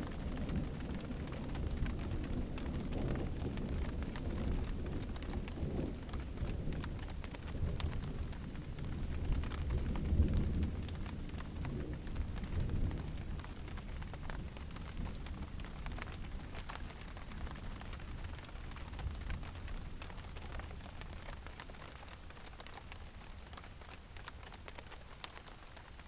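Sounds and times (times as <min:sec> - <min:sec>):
low rumble of thunder: 0:00.0 - 0:26.0
rain drops ticking on surfaces: 0:00.0 - 0:26.0.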